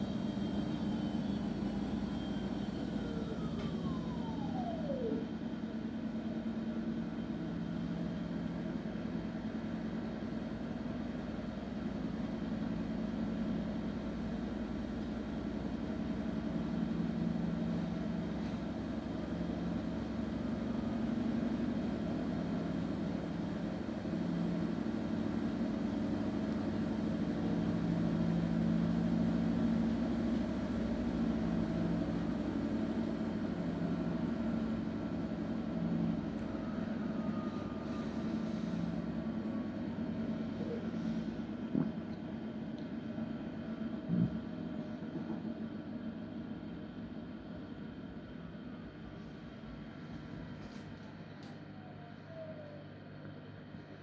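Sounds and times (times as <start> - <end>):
washing machine motor hum: 0.0 - 54.0.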